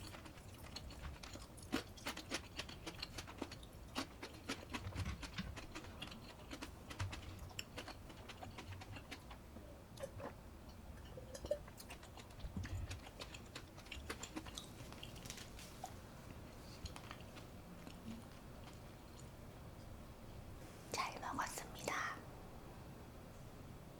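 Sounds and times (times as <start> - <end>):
chewing with crisp clicks: 0.0 - 20.0.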